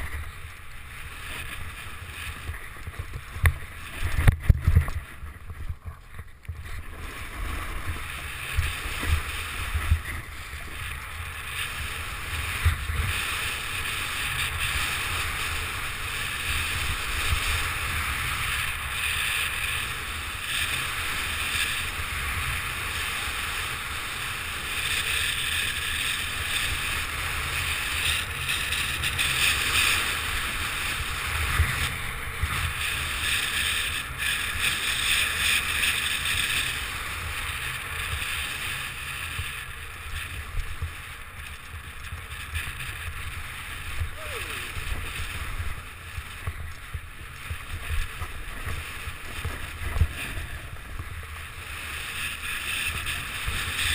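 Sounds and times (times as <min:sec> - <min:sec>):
skis scraping over packed snow: 0:00.0 - 0:53.9.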